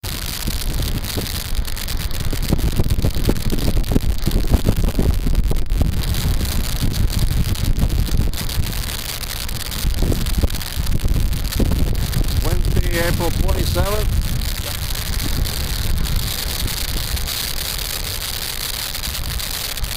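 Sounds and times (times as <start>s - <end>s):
steady rushing hiss: 0.0s - 19.9s
wind buffeting microphone: 0.0s - 19.9s.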